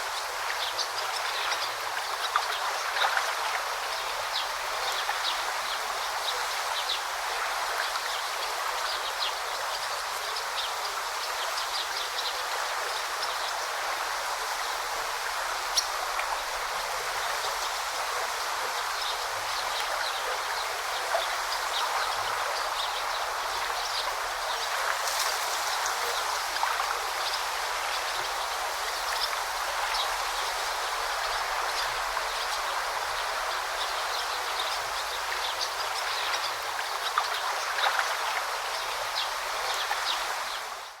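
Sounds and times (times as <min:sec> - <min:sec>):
river water babbling: 0:00.0 - 0:41.0.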